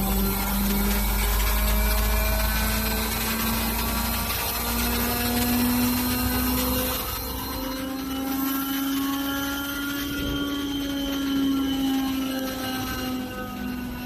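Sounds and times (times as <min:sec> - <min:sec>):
air compressor low rumble: 0:00.0 - 0:14.0
motor whine rising in pitch: 0:00.0 - 0:14.0.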